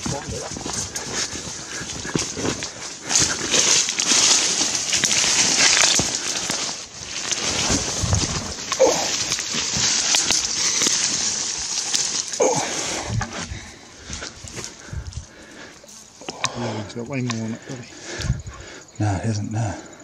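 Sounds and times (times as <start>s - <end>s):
undergrowth rustling and crackling: 0.0s - 19.4s.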